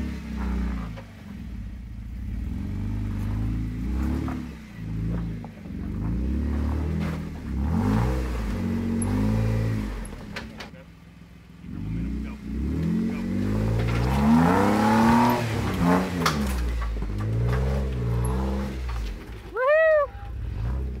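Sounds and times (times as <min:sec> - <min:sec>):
engine revving under load: 0:00.0 - 0:10.7, 0:11.5 - 0:19.5, 0:20.2 - 0:21.0.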